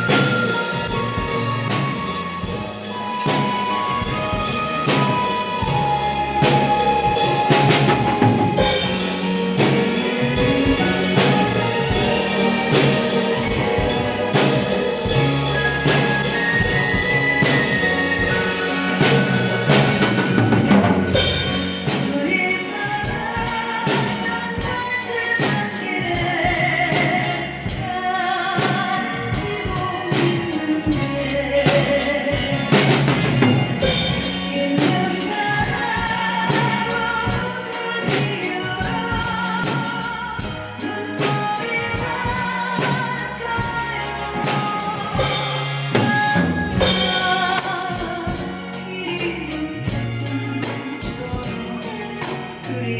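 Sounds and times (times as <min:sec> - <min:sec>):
drum kit playing: 0:00.0 - 0:52.9
recorded ballad with band: 0:00.0 - 0:52.9
woman singing with vibrato: 0:00.0 - 0:52.9.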